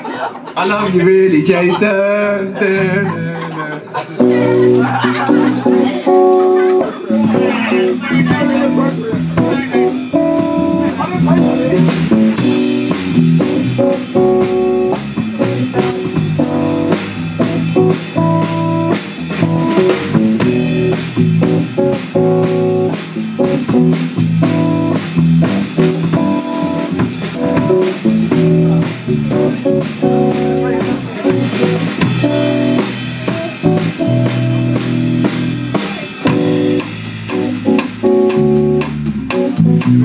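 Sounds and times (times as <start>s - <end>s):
guitars strumming chords: 0.7s - 40.0s
bass guitar: 0.9s - 40.0s
drum kit steady beat: 4.2s - 40.0s.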